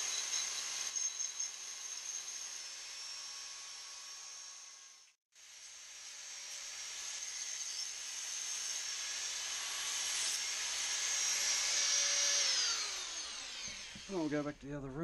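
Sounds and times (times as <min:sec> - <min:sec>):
rotary tool sanding metal: 0:00.0 - 0:14.6.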